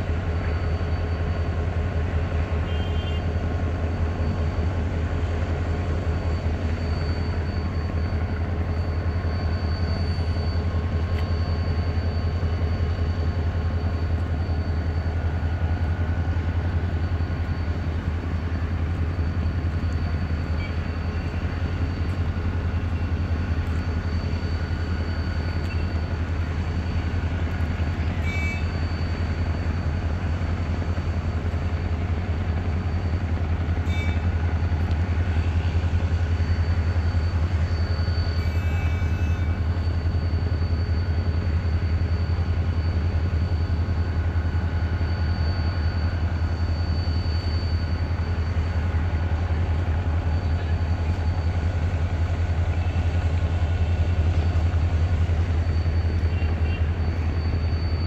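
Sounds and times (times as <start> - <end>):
faint whining tones: 0.0 - 58.0
locomotive engine humming: 0.0 - 58.0.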